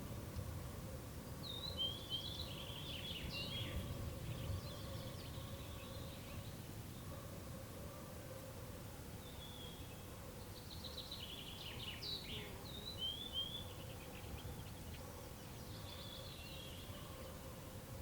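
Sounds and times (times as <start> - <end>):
songbird chirping and trilling: 1.3 - 7.2, 9.2 - 17.7.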